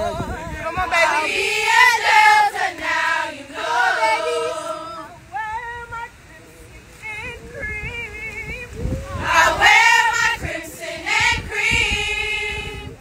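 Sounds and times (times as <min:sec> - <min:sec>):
women singing a cappella: 0:00.0 - 0:13.0.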